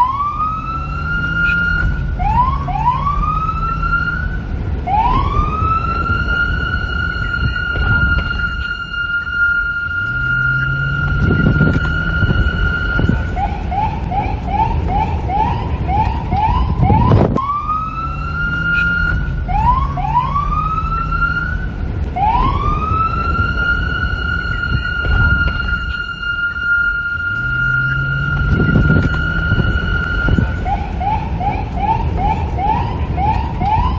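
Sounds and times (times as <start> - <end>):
police siren: 0.0 - 33.9
traffic rumble: 0.0 - 33.9
wind: 0.0 - 33.9.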